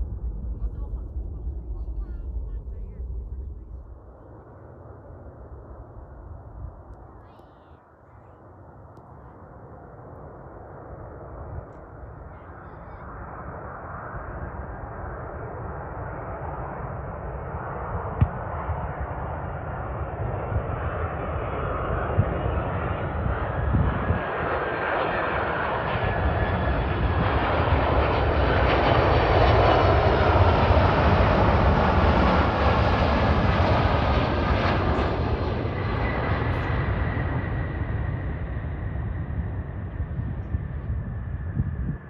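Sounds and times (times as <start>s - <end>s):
jet engines of landing airliner: 0.0s - 42.0s.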